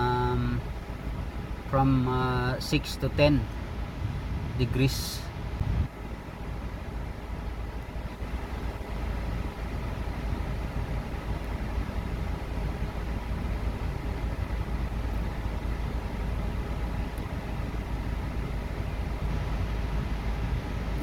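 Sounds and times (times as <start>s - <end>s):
air rushing from vents: 0.0s - 21.0s
car engine idling: 0.0s - 21.0s.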